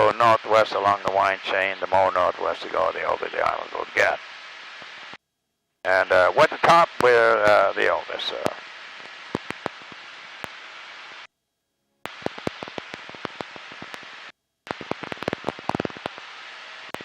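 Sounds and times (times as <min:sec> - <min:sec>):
intercom hiss with crackles: 0:00.0 - 0:05.2, 0:05.8 - 0:11.3, 0:12.1 - 0:17.0.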